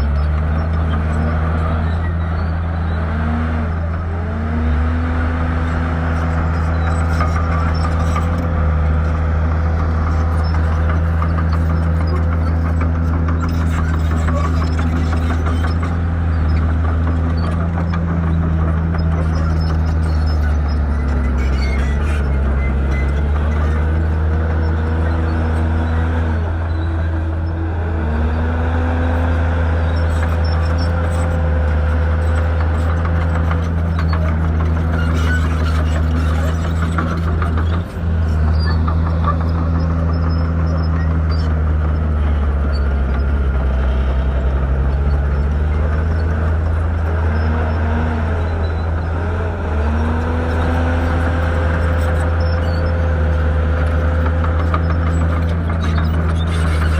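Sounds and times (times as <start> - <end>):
bulldozer diesel engine running hard: 0.0 - 56.9.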